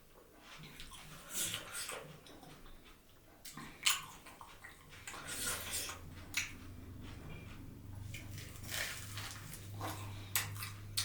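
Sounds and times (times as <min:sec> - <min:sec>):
wet chewing and slurping: 0:00.4 - 0:11.0.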